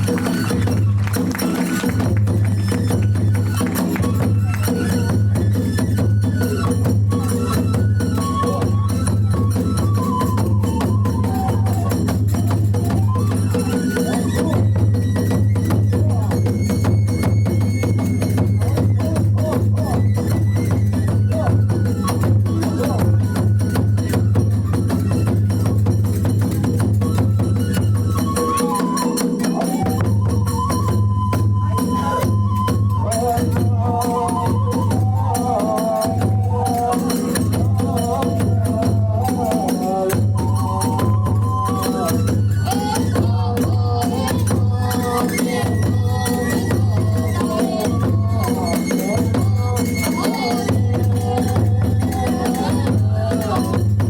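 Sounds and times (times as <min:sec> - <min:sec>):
hand cymbals struck rapidly: 0:00.0 - 0:30.9, 0:31.9 - 0:54.0
flute melody: 0:00.0 - 0:52.8
taiko drums: 0:00.0 - 0:54.0.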